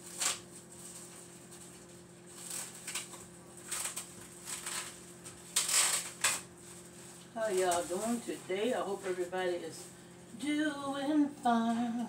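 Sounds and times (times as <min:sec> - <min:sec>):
plastic wrapping crinkling: 0:00.0 - 0:10.9
faint steady hum: 0:00.0 - 0:12.0.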